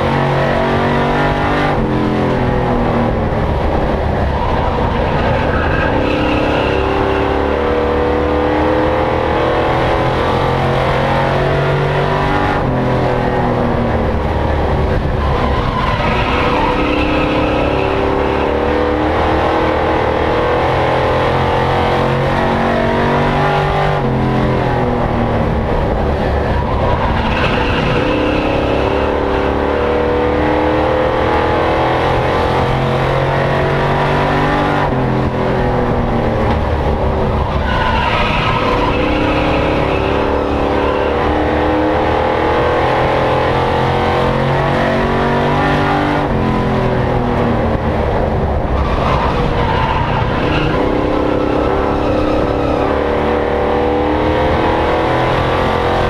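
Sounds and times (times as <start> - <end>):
racing truck engine revving: 0.0 - 56.0.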